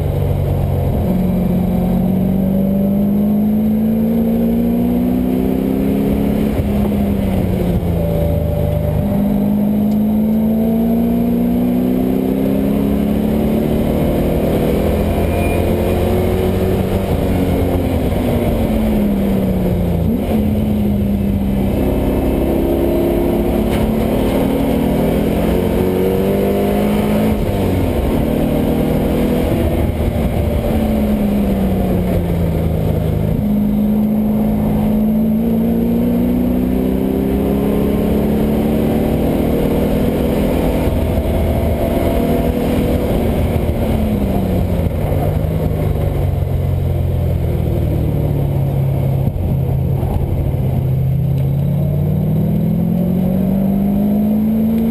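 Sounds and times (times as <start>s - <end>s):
race car engine revving: 0.0s - 47.0s, 47.8s - 54.9s.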